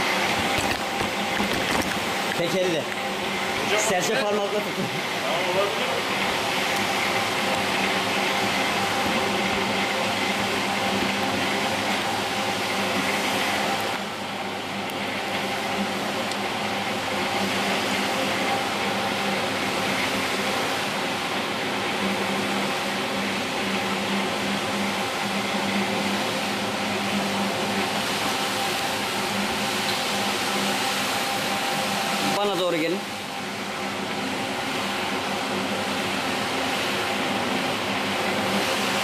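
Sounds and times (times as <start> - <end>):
carpet washing machine running: 0.0 - 39.0.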